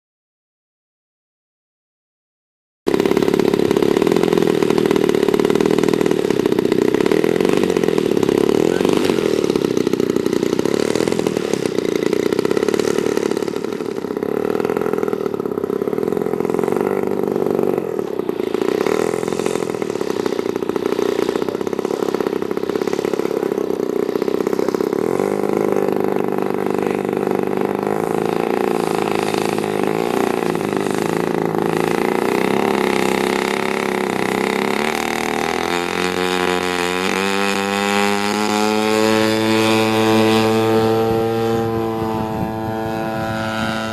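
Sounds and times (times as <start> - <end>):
model airplane engine running: 2.9 - 43.9.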